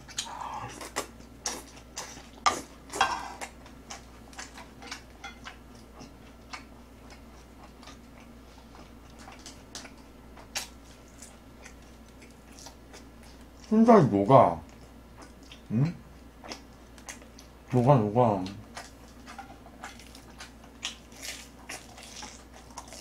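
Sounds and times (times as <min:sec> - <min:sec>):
chewing crunchy fried chicken: 0:00.0 - 0:14.0, 0:14.6 - 0:23.0.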